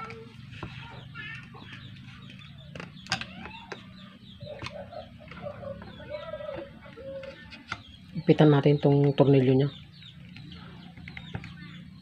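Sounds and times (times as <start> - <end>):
bird calls with clucking: 0.0 - 12.0.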